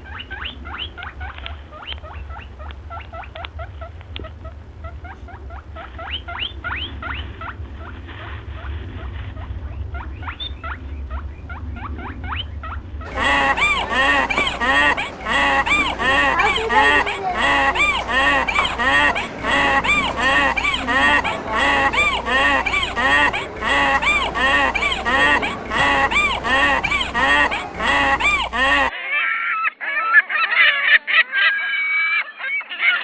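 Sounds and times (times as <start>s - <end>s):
loud honking call: 0.0s - 28.9s
low steady hum: 0.0s - 28.9s
small animal squeaking: 0.0s - 28.9s.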